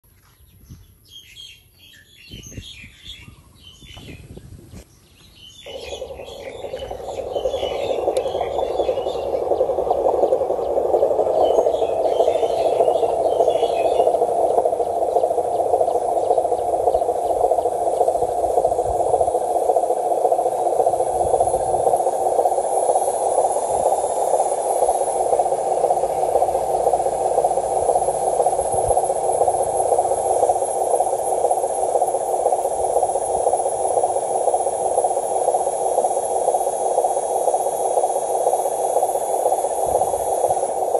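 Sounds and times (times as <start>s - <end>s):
birds chirping: 0.4s - 33.4s.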